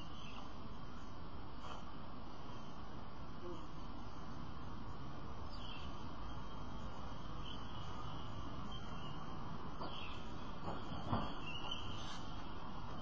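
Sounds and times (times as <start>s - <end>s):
outdoor background hiss: 0.0s - 13.0s
faint chirps: 2.5s - 13.0s.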